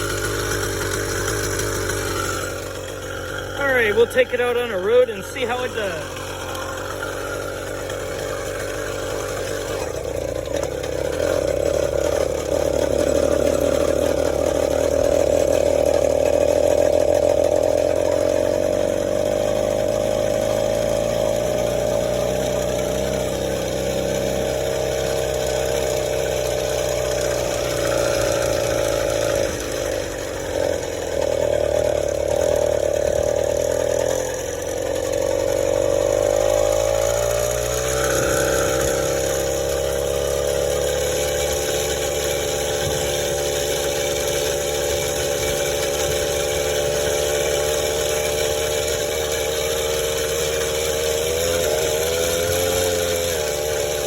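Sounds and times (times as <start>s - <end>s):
small motorized bicycle engine: 0.0s - 54.0s.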